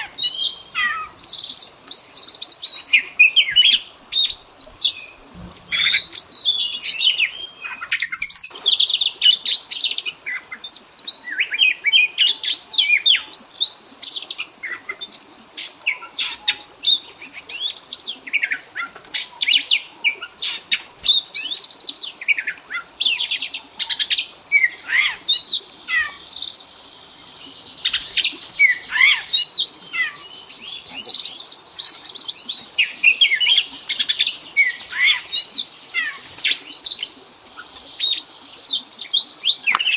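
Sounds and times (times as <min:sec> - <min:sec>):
bird song whistles and trills: 0:00.0 - 0:39.9.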